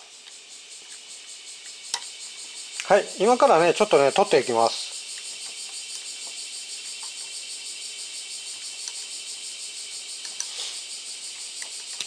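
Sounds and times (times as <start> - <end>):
cicadas singing: 0.0 - 12.0.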